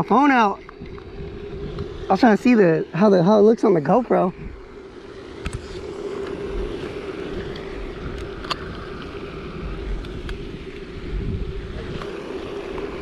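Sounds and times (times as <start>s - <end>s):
steady low hum: 0.0s - 13.0s
wind rumbling on microphone: 0.0s - 13.0s.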